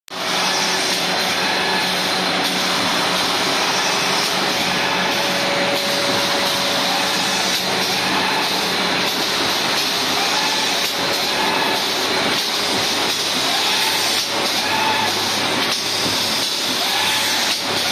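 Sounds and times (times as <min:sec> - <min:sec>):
machine running: 0:00.1 - 0:17.9.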